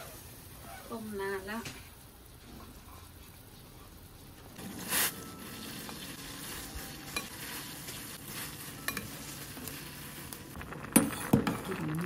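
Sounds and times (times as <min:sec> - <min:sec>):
pot boiling: 0:00.0 - 0:12.0.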